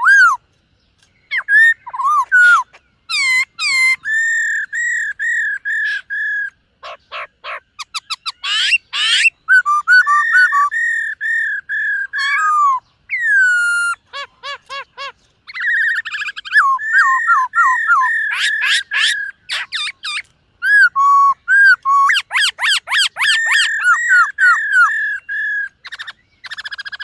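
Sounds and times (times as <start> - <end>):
bird whistling fluty notes: 0.0 - 0.4, 1.3 - 14.6, 15.5 - 27.0.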